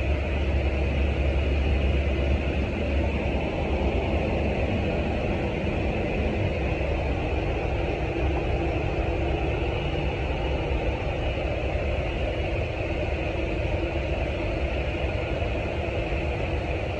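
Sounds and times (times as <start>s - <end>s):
low machinery drone: 0.0s - 16.9s.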